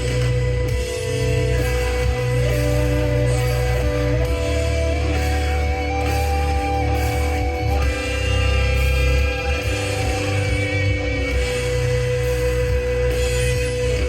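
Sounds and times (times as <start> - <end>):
distorted guitars and bass: 0.0 - 14.0.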